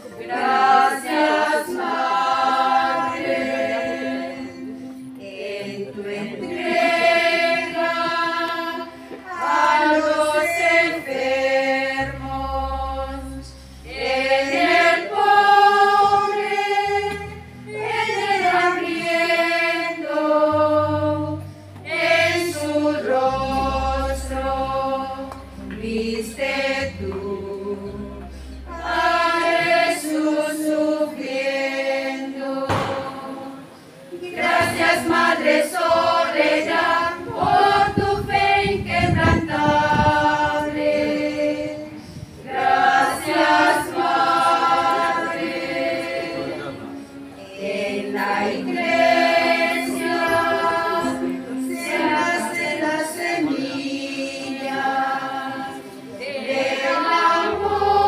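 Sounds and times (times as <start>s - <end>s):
women's choir singing: 0.0s - 58.0s.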